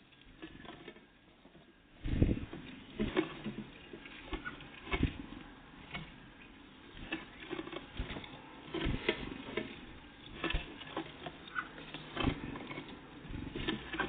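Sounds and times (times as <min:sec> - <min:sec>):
birds pecking at a feeder: 0:00.0 - 0:14.0.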